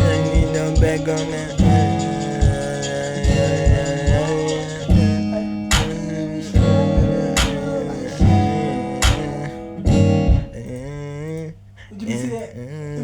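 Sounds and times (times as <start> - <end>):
sharp percussion hit: 0.0 - 10.5
plucked guitar-like melody: 0.0 - 10.7.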